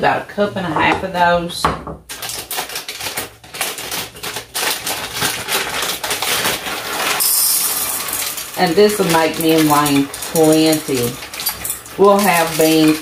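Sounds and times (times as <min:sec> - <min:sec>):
beans rattling into cup: 0:02.1 - 0:13.0.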